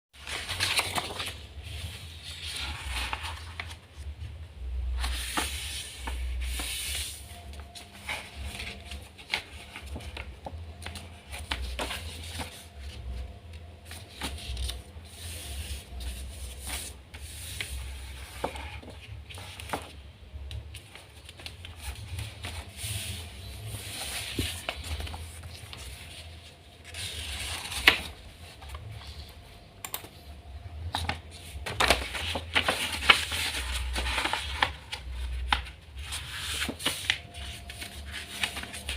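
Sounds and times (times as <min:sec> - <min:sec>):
paper rustling and crinkling: 0:00.2 - 0:04.1, 0:04.9 - 0:29.5, 0:30.8 - 0:38.9.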